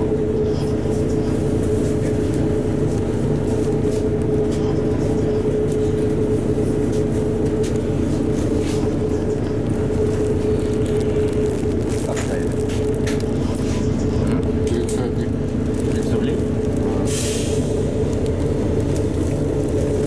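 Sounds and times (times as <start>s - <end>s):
bus diesel engine idling: 0.0s - 20.0s.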